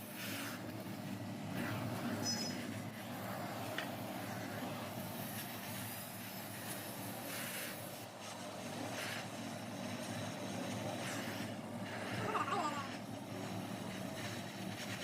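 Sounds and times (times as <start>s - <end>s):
welding torch flame hissing: 0.0s - 15.0s.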